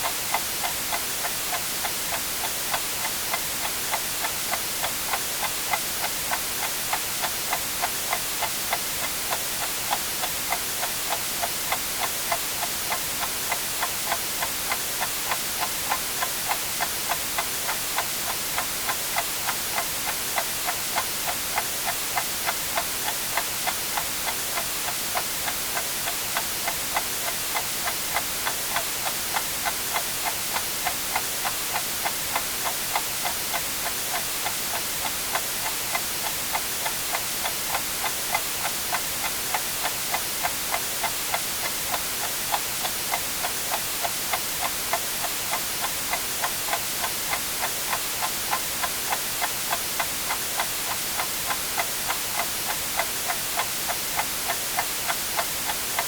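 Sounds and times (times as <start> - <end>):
clock ticking: 0.0 - 56.0
white noise hiss: 0.0 - 56.0.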